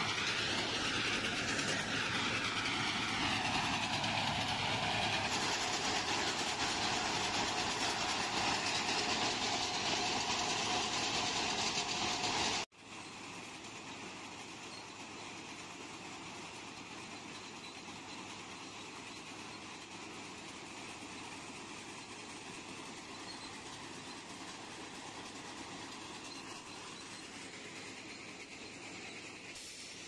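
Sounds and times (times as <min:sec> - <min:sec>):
ballast cleaning machine clatter: 0:00.0 - 0:30.0.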